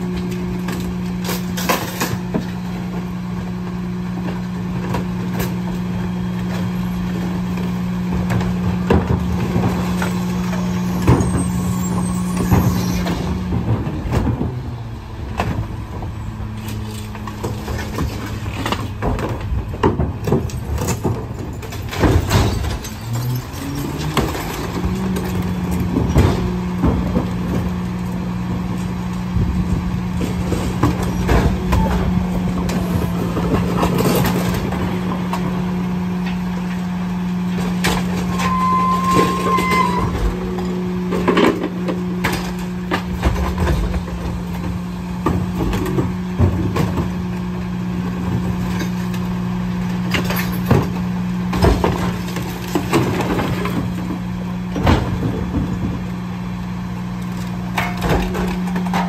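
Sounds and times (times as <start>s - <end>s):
diesel truck engine running: 0.0s - 59.0s
trash knocking and clattering: 6.5s - 36.7s, 37.5s - 49.2s, 49.9s - 56.2s, 57.6s - 59.0s.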